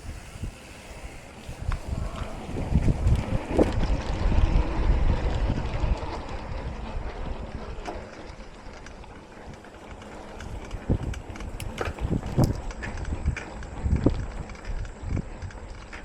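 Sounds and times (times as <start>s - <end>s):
tyre and trail rumble: 0.0s - 16.0s
wind buffeting microphone: 0.0s - 16.0s.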